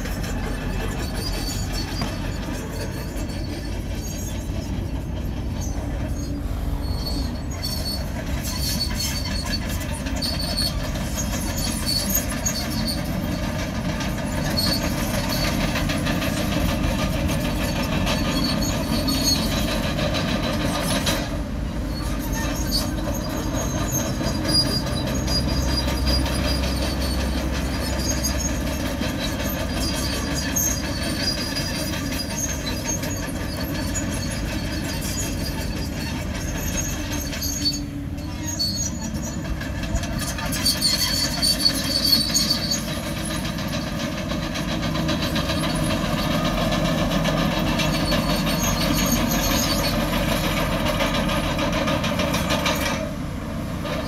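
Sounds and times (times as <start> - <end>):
bulldozer diesel engine running: 0.0 - 54.0
steel tracks squealing: 0.0 - 54.0.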